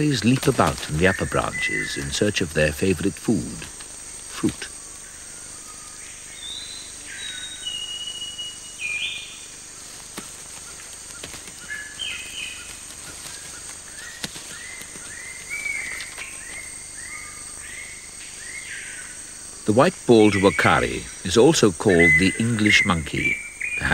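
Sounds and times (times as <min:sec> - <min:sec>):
birds whistling: 0:00.0 - 0:03.6, 0:04.3 - 0:19.3, 0:20.1 - 0:23.9
high insect drone: 0:00.0 - 0:23.9.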